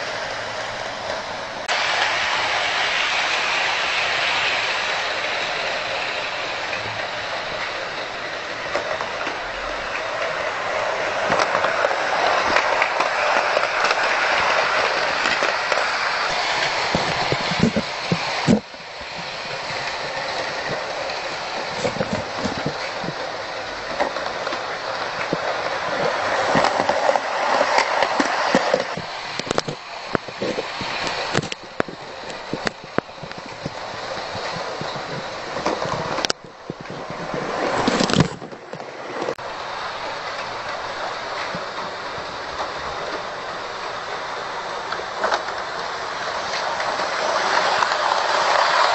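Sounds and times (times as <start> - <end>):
model train rolling whir: 0.0 - 48.9
clicks at rail joints: 4.3 - 48.9.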